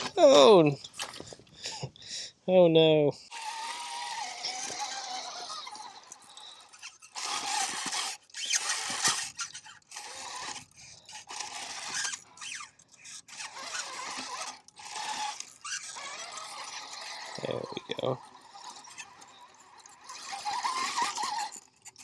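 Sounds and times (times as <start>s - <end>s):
electric drivetrain whining: 0.0s - 1.8s, 3.3s - 22.0s
tires scraping on stone: 0.0s - 1.8s, 3.3s - 22.0s.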